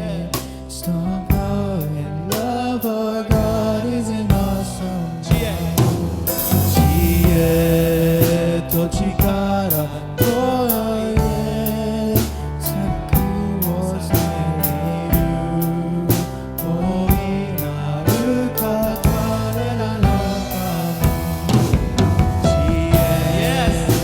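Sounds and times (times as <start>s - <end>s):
bass line: 0.0s - 24.0s
drum kit beats: 0.0s - 24.0s
person singing: 0.0s - 24.0s.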